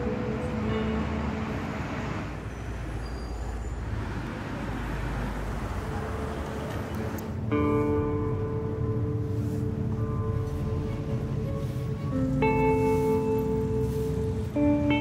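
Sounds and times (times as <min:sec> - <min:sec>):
road traffic rumble and hiss: 0:00.0 - 0:15.0.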